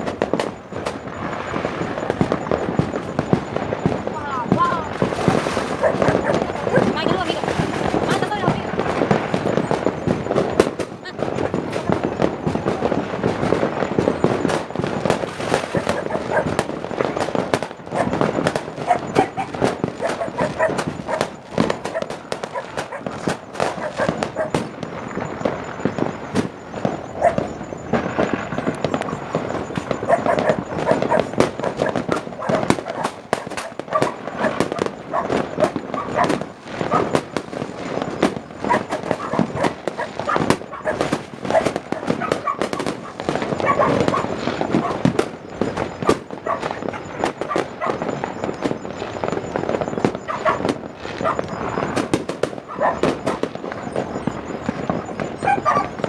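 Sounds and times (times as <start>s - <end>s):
fireworks and firecrackers banging: 0.0s - 56.0s.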